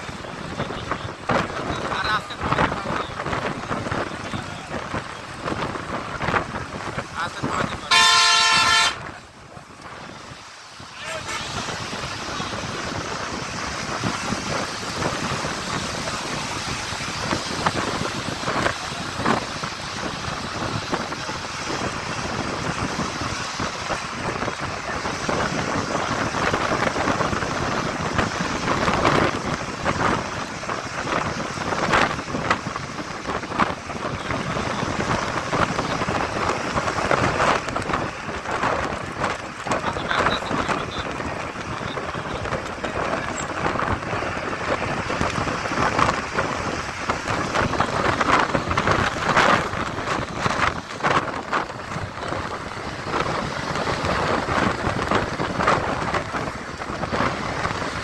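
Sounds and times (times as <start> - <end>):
traffic on wet road: 0.0 - 58.0
wind rushing over microphone: 0.0 - 58.0.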